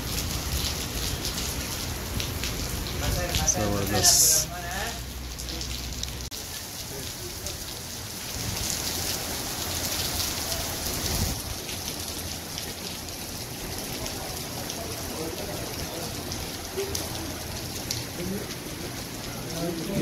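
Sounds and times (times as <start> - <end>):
heavy rain on pavement: 0.0 - 20.0.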